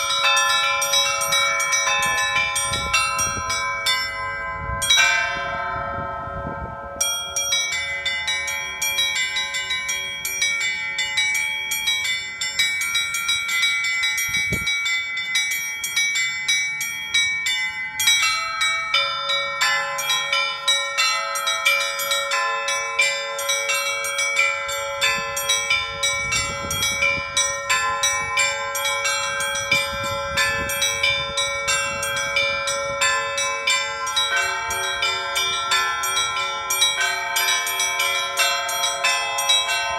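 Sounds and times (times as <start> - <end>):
hum of large bells: 0.0 - 39.9
small high bells striking rapidly: 0.0 - 39.9.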